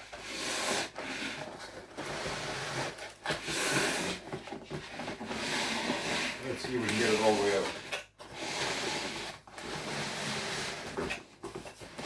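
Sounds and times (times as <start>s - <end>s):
cardboard box scraping and rubbing: 0.0s - 12.0s.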